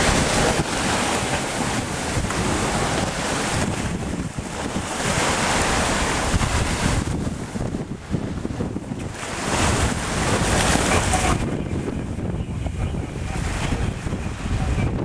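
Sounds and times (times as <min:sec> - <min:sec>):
sea water rushing along hull: 0:00.0 - 0:15.0
wind buffeting microphone: 0:00.0 - 0:15.0.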